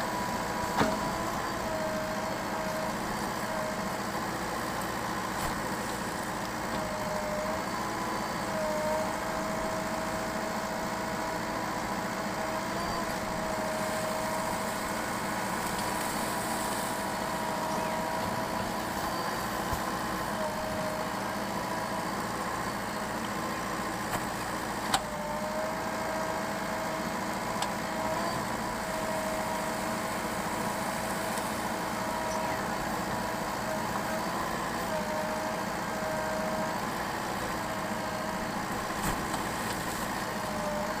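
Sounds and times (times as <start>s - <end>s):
diesel engine running at low revs: 0.0s - 41.0s
steady whine: 0.0s - 41.0s.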